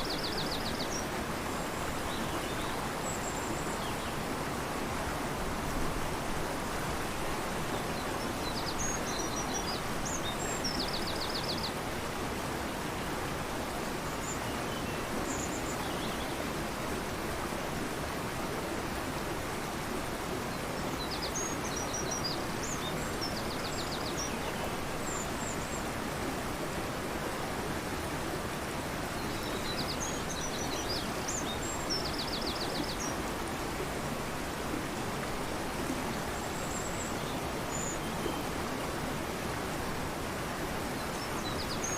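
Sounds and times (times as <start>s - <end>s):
river rushing: 0.0s - 41.9s.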